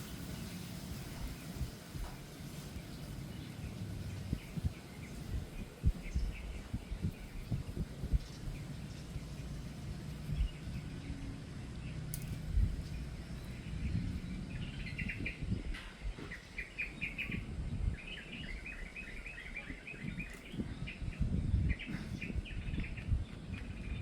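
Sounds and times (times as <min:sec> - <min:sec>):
low uneven rumble: 0:00.0 - 0:24.0
small birds chirping: 0:00.0 - 0:24.0.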